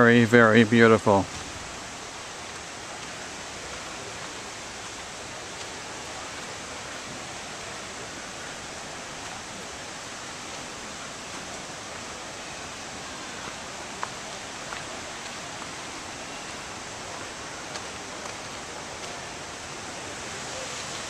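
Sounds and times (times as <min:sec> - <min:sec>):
rushing creek water: 0:00.0 - 0:21.0.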